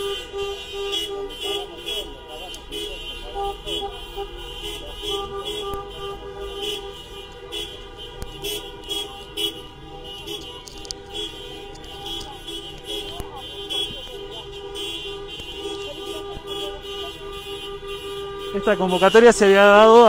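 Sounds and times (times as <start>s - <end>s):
car horns honking: 0.0s - 20.0s
cars driving past: 0.0s - 20.0s.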